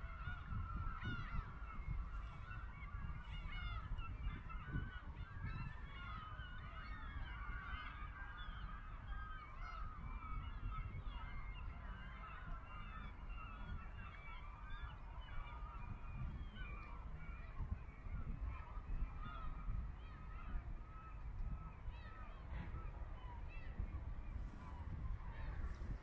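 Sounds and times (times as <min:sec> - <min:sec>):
flock of birds calling: 0:00.0 - 0:26.0.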